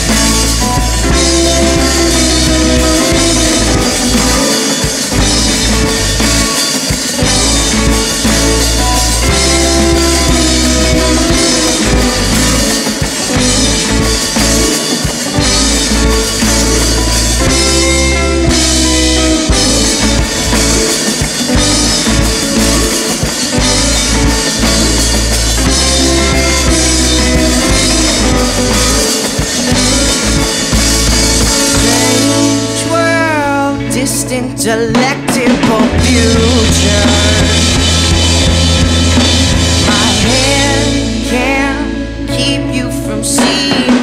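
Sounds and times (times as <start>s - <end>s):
psychedelic rock instrumental: 0.0s - 44.0s
sliding bending guitar notes: 0.0s - 44.0s.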